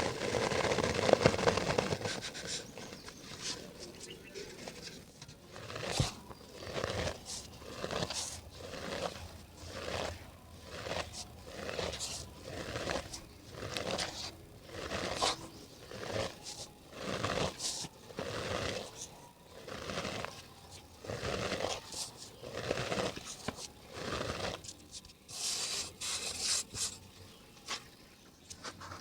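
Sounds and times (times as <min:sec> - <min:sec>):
cement dirt crunching: 0:00.0 - 0:29.0.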